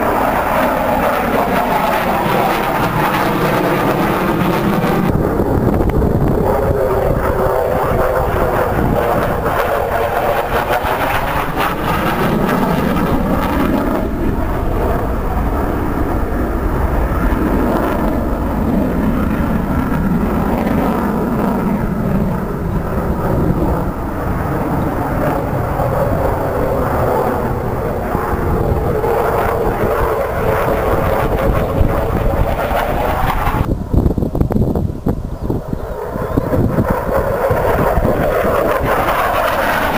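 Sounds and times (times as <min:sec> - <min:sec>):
jet fighter flying past: 0:00.0 - 0:39.9.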